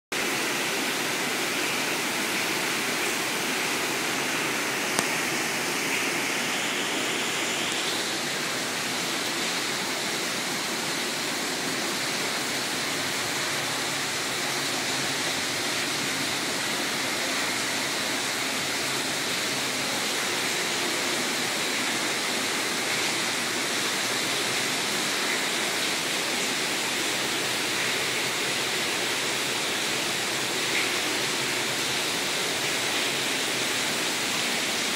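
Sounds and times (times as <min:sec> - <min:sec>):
turbulent water rushing: 0:00.1 - 0:34.9.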